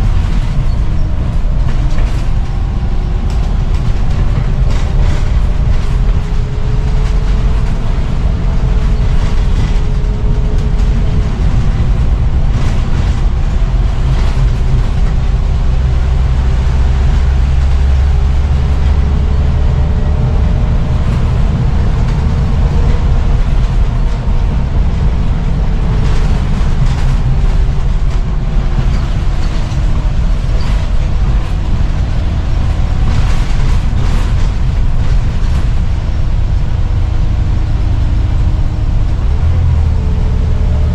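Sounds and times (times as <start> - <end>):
bus diesel engine rumble and whine: 0.0 - 40.9.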